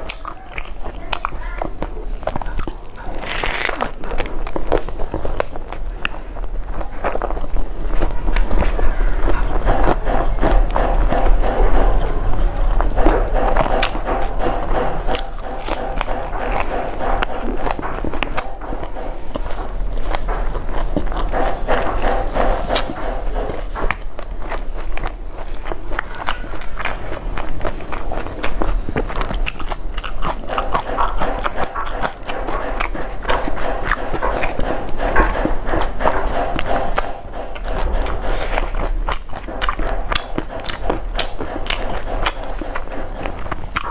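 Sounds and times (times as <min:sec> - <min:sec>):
person chewing food: 0:00.0 - 0:43.9.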